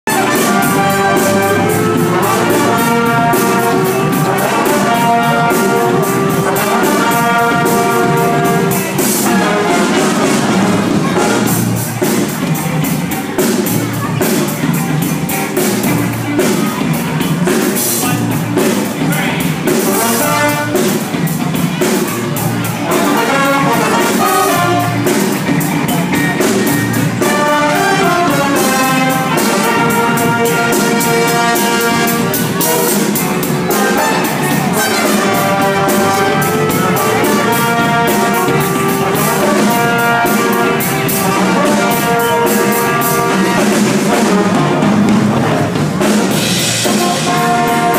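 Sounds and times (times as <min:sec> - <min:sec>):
brass section playing: 0:00.0 - 0:12.1, 0:19.2 - 0:21.4, 0:22.3 - 0:47.9
drum kit beat: 0:00.0 - 0:47.9.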